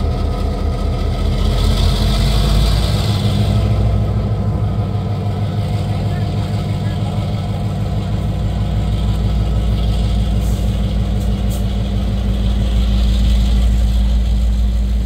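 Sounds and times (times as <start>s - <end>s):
heavy engine idling: 0.0s - 15.0s.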